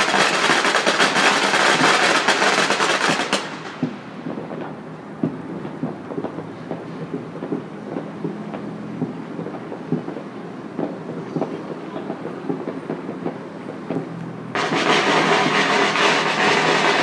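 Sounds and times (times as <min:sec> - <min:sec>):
distant fireworks popping: 0:00.0 - 0:17.0.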